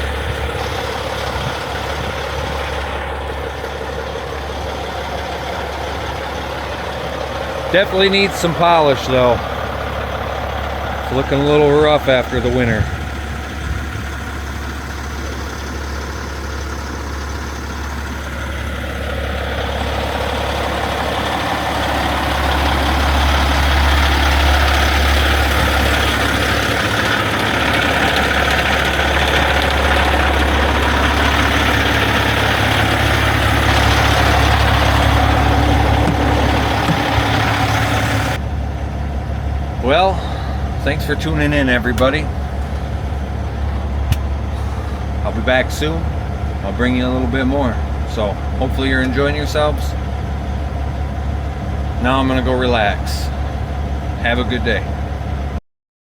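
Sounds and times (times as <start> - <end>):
truck diesel engine idling: 0.0 - 55.6.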